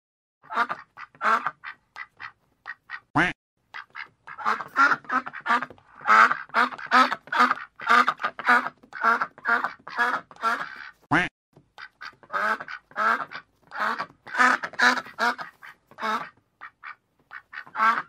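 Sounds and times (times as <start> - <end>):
duck quacking: 0.4 - 18.0.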